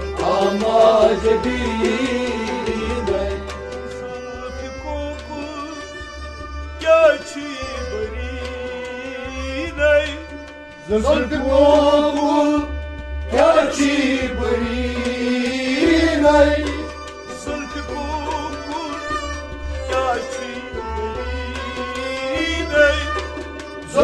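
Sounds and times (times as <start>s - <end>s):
man singing: 0.0s - 6.2s, 6.8s - 24.0s
bowed string instrument: 0.0s - 24.0s
harmonium chords: 0.0s - 24.0s.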